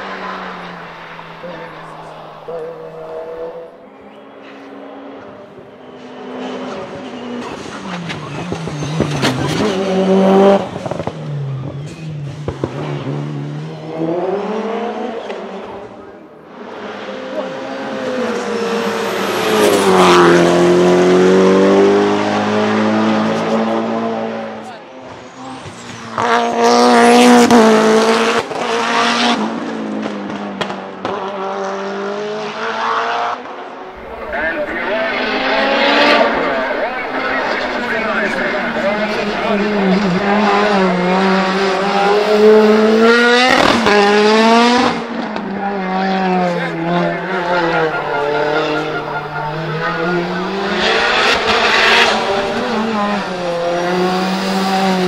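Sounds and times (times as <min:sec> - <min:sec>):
rally car engine passing: 0:00.0 - 0:55.0.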